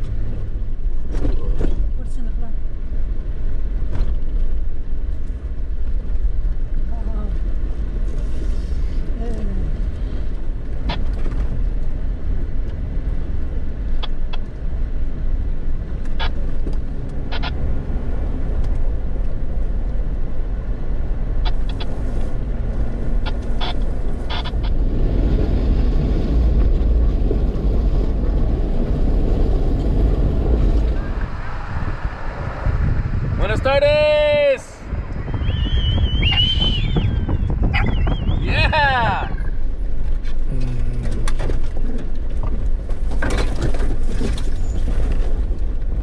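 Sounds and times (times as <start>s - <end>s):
engine and tyres rumbling: 0.0s - 46.0s.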